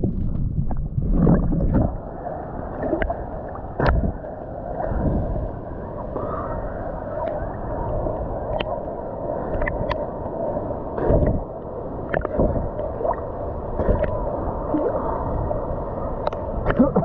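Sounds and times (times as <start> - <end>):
water sloshing and gurgling: 0.0 - 17.0.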